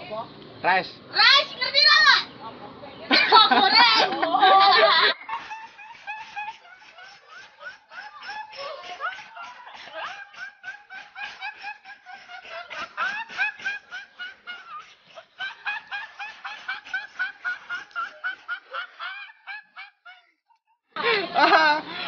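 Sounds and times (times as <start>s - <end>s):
young man laughing: 3.1s - 22.0s.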